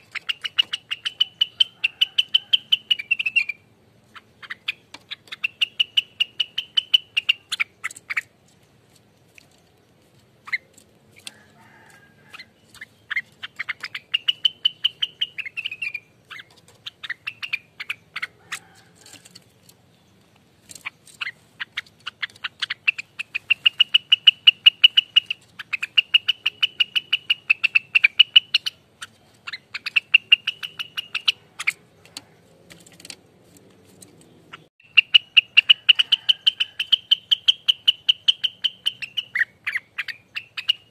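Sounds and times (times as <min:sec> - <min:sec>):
songbird rapid rattling song: 0:00.0 - 0:40.9.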